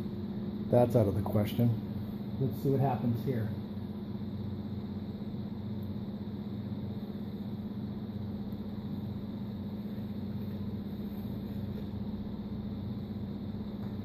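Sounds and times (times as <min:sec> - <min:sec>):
steady low machine hum: 0:00.0 - 0:14.0.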